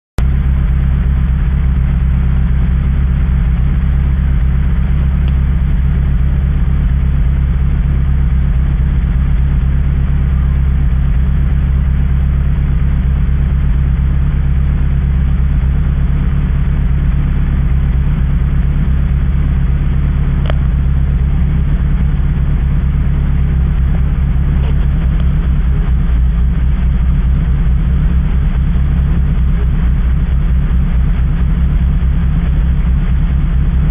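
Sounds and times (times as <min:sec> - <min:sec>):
car engine running steadily: 0:00.2 - 0:33.9.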